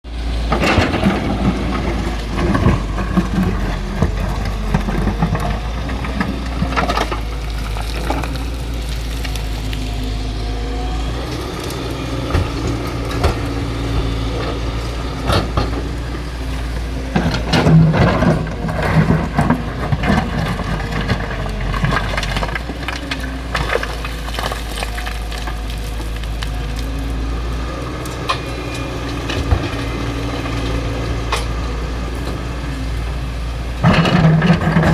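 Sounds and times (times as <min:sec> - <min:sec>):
excavator diesel engine: 0:00.0 - 0:34.9.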